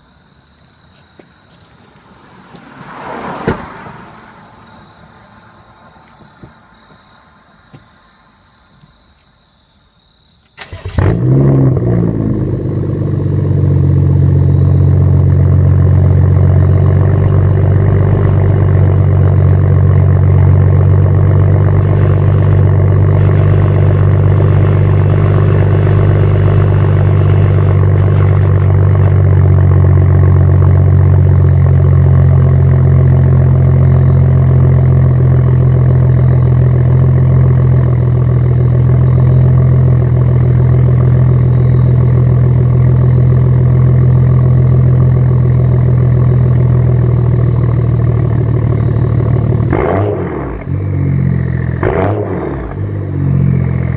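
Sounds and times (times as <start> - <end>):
car engine starting and idling: 1.4 - 8.7, 10.5 - 53.9.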